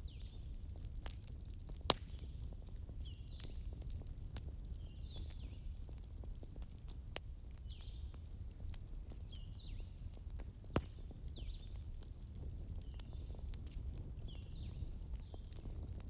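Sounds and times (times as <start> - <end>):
fire popping: 0.0 - 16.0
wood fire crackling: 0.0 - 16.0.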